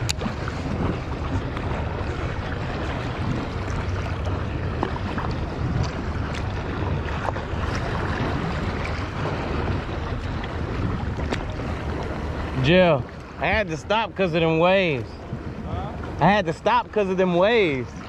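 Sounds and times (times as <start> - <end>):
water lapping and splashing: 0.0 - 18.0
wind buffeting microphone: 0.0 - 18.0.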